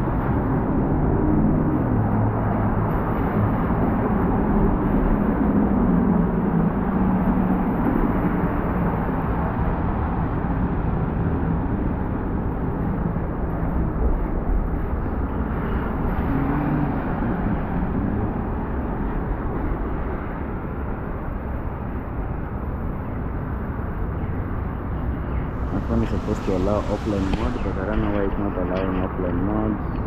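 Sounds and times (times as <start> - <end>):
constant low rumble: 0.0 - 30.0
vehicle traffic: 0.0 - 30.0.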